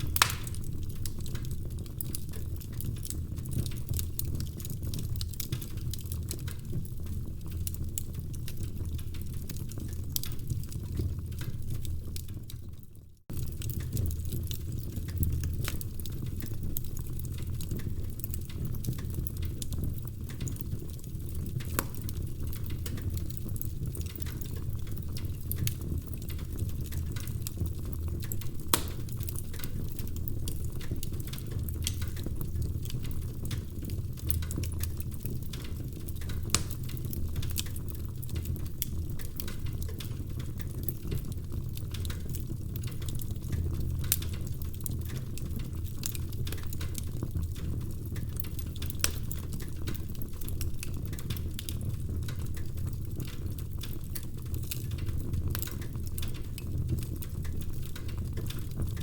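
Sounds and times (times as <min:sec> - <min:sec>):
logs crackling and popping: 0:00.0 - 0:59.0
low rumble of flames: 0:00.0 - 0:59.0.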